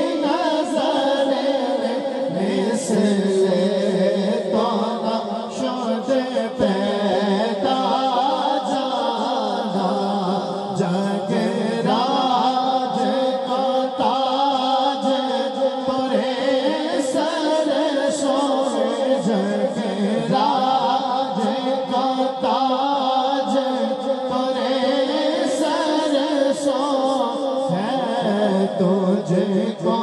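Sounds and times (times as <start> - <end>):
man singing devotional song: 0.0 - 30.0.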